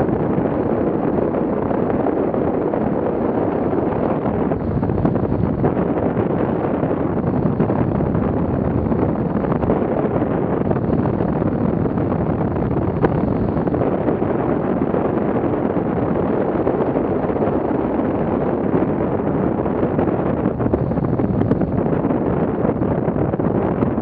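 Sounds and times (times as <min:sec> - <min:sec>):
airflow buffeting microphone: 0:00.0 - 0:24.0.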